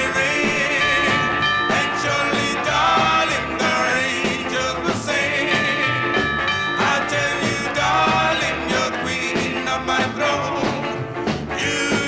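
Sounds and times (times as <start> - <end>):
vocal group singing doo-wop: 0.0 - 12.0.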